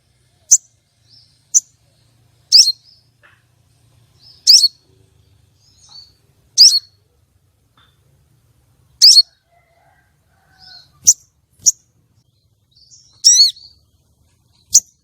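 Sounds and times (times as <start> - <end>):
bird chirping: 0.2 - 9.4, 10.4 - 15.0.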